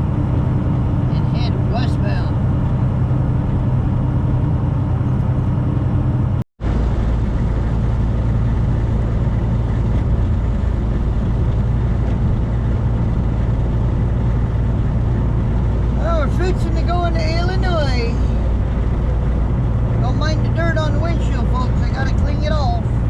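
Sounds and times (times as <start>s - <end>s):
diesel engine drone: 0.0s - 23.0s
road noise inside truck cab: 0.0s - 23.0s.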